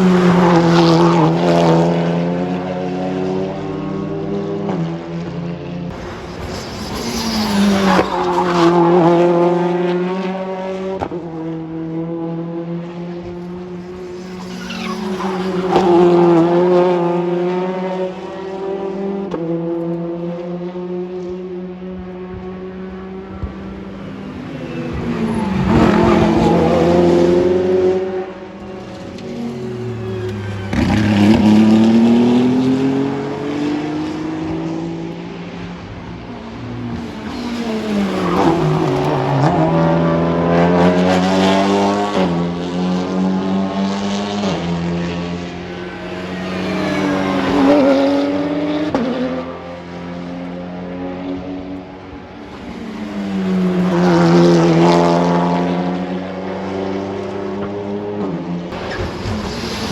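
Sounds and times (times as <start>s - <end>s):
race cars passing at speed: 0.0s - 59.9s.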